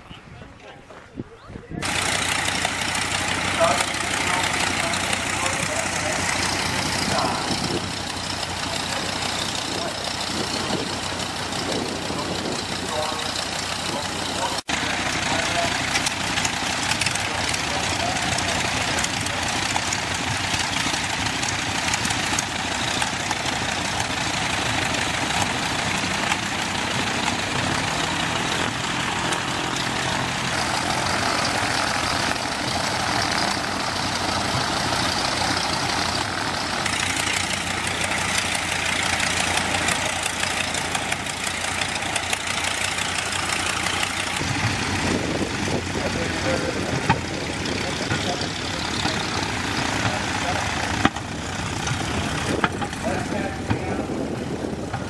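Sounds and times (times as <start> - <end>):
propeller aircraft engines idling: 0.0 - 55.0.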